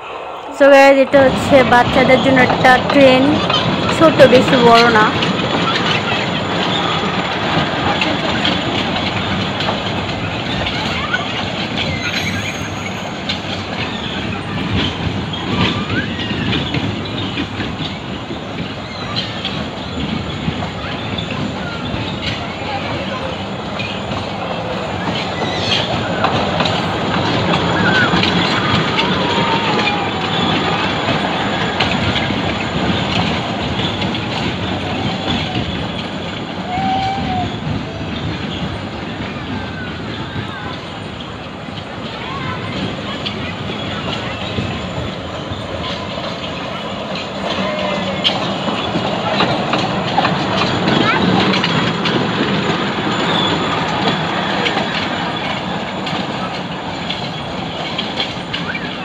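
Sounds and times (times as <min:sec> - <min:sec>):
ride-on train rumble: 0:00.0 - 0:59.0
wheels clicking over rail joints: 0:01.2 - 0:59.0
wheel squeals: 0:03.4 - 0:59.0.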